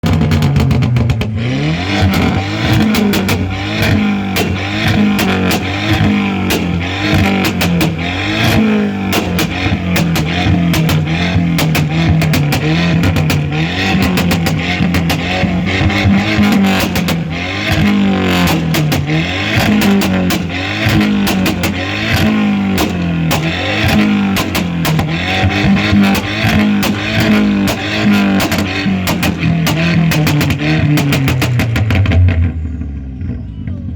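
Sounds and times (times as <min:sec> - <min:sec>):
exhaust crackles and bangs: 0:00.0 - 0:33.1
car engine revving: 0:00.0 - 0:33.6.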